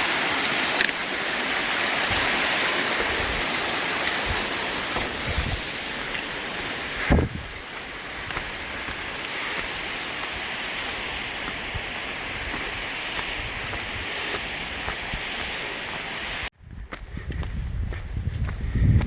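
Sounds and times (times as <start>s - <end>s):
rushing stream water: 0.0s - 16.5s.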